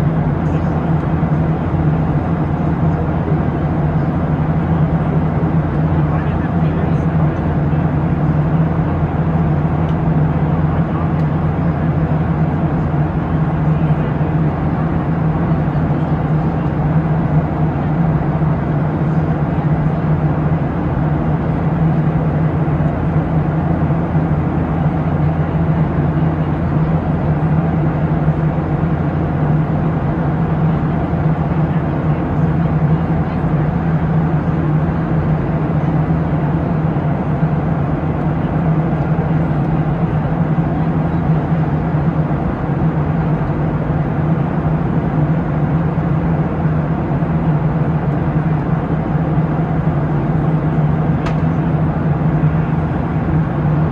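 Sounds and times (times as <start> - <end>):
airplane cabin air rush: 0.0 - 53.9
low engine drone: 0.0 - 53.9.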